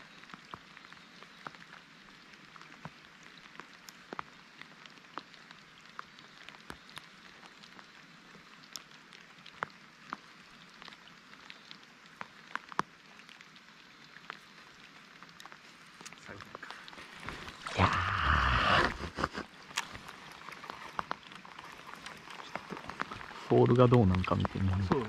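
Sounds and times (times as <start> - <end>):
water drops pattering and ticking: 0.0 - 25.0.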